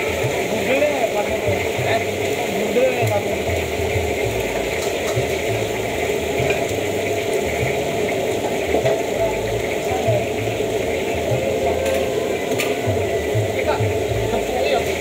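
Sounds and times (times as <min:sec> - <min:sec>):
gas burner rushing: 0:00.0 - 0:15.0.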